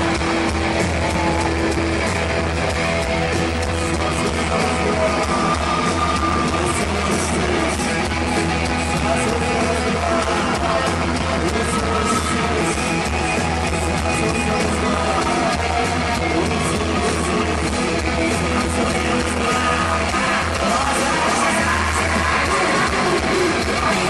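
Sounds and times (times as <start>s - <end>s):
heavy metal band playing: 0.0s - 24.0s
singer singing and shouting: 0.0s - 24.0s.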